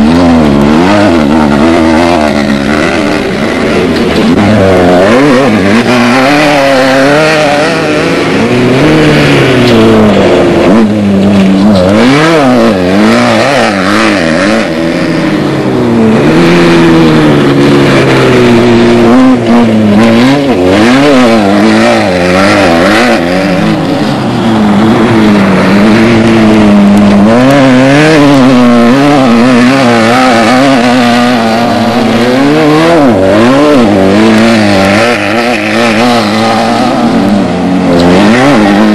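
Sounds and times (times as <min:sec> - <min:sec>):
race vehicle engines revving: 0:00.0 - 0:38.9.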